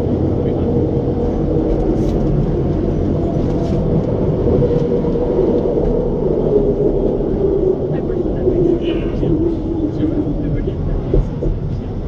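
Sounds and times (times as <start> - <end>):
train rumbling with humming tone: 0.0 - 12.0.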